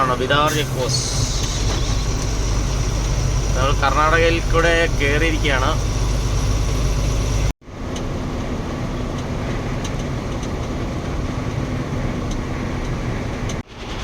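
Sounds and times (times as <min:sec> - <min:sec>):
truck engine and road noise: 0:00.0 - 0:14.0.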